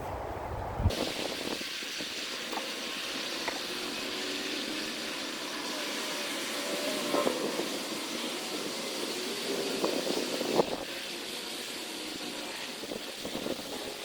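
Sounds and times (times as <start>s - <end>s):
forge hissing: 0.9s - 14.0s.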